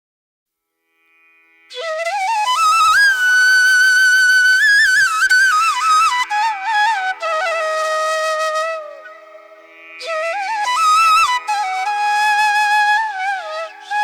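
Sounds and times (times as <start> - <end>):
solo flute melody: 1.7 - 14.0.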